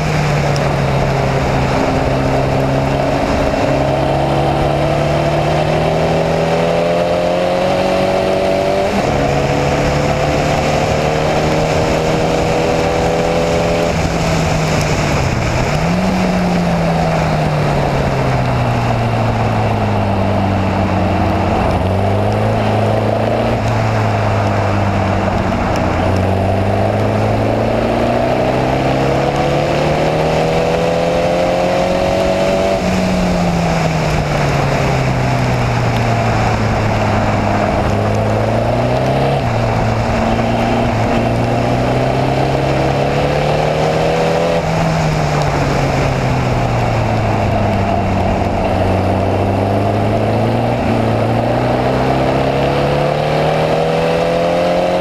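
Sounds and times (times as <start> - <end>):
race car engine at speed: 0.0 - 55.0
steady rushing noise: 0.0 - 55.0.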